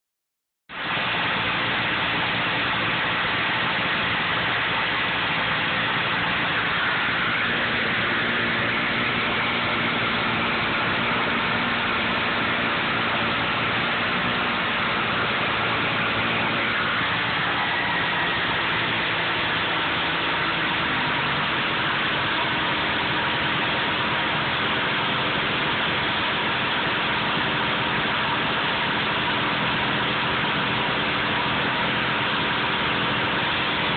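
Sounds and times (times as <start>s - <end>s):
two-stroke engine idling: 0.7s - 33.9s.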